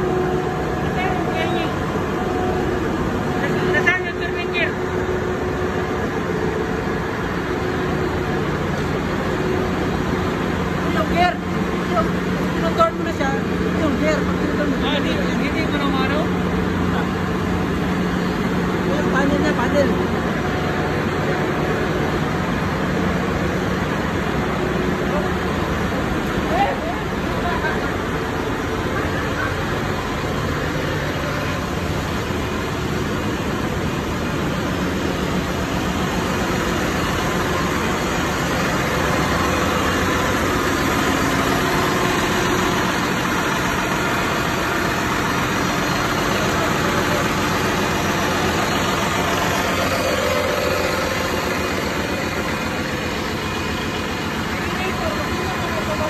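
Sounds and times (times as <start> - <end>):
engine-room machinery drone: 0.0 - 56.0.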